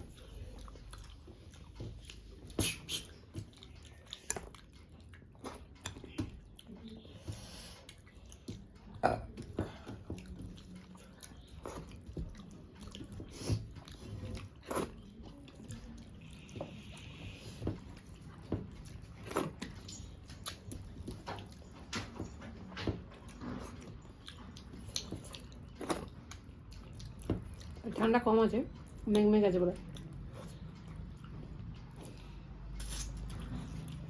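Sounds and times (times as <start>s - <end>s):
person chewing with wet smacks: 0.0s - 34.0s.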